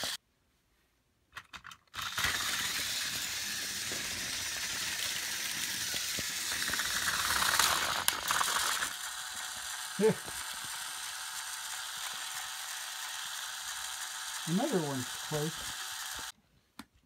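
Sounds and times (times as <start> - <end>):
toy train motor whirring: 0.0 - 0.2, 1.6 - 16.4.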